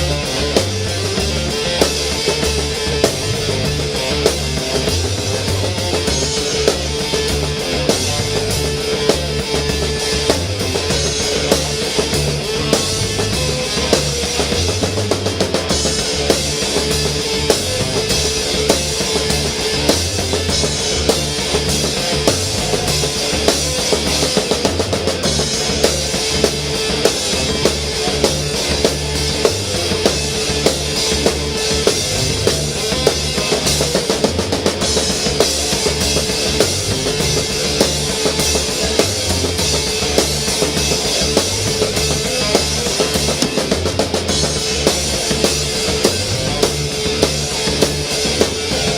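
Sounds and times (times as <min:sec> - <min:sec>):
bass: 0:00.0 - 0:48.9
drum kit beat: 0:00.0 - 0:48.9.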